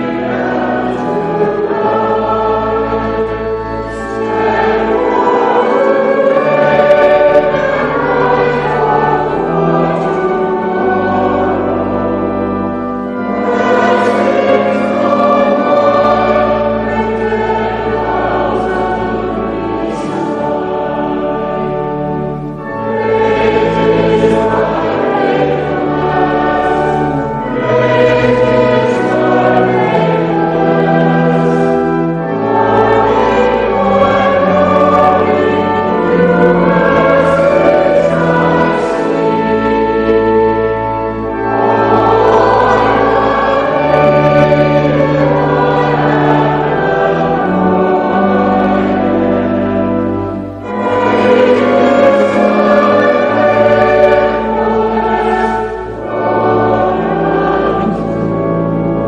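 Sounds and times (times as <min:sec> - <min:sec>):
choir singing a hymn: 0:00.0 - 0:59.0
low held accompaniment notes: 0:00.0 - 0:59.0.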